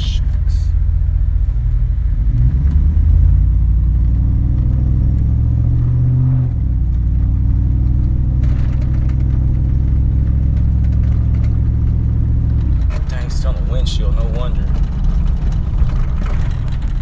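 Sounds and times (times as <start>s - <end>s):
truck exhaust droning: 0.0s - 17.0s.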